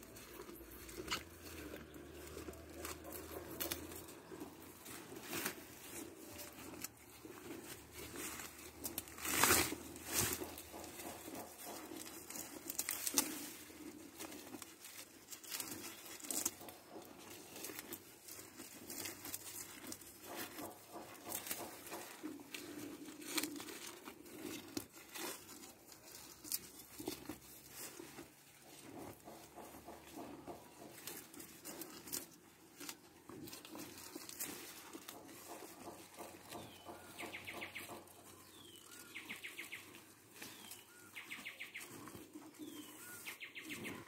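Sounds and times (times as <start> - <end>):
bull tearing and chewing grass: 0.0 - 44.0.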